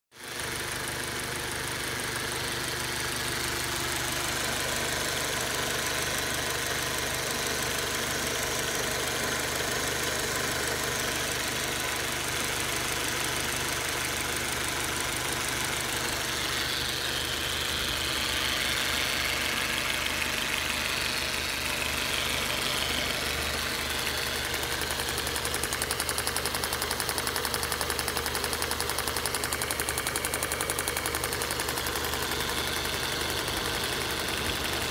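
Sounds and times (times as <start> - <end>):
car engine idling: 0.2 - 34.9.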